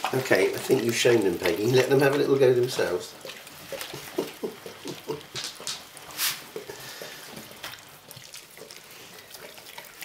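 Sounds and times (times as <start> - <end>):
puppies lapping milk: 0.0 - 10.0.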